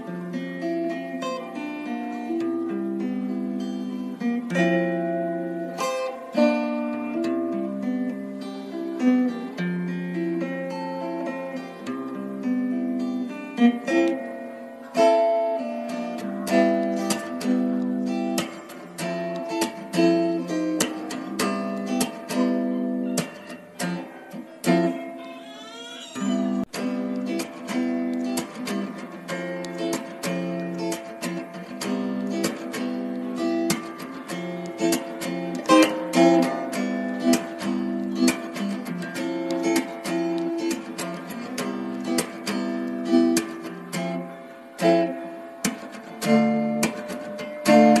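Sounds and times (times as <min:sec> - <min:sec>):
guitar plucked and strummed: 0:00.0 - 0:48.0.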